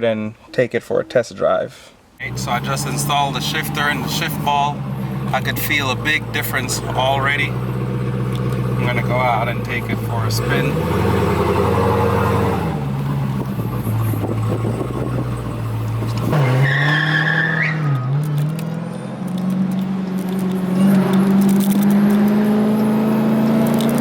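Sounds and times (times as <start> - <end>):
car engine accelerating: 2.2 - 24.0.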